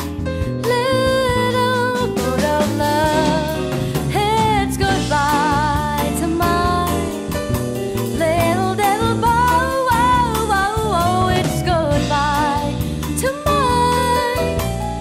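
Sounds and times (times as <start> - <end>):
jazz band playing bossa nova: 0.0 - 15.0.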